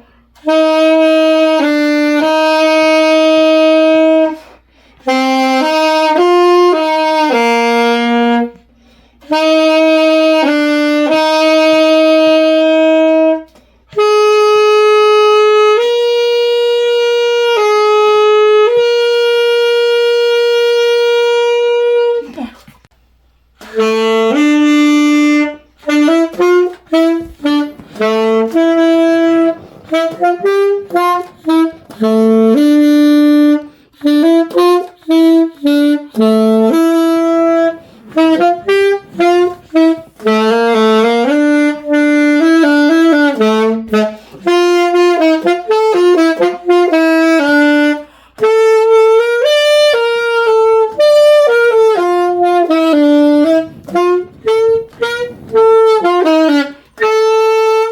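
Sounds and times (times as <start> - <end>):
saxophone slow melody: 0.0 - 57.9.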